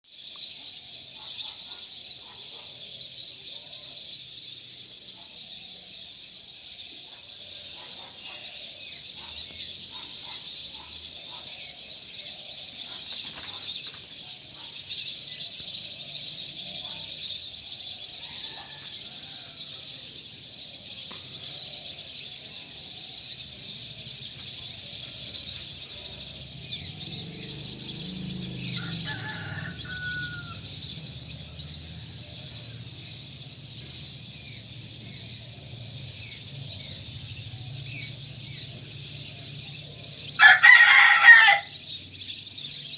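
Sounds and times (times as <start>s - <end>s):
small birds chirping chorus: 0.0s - 42.9s.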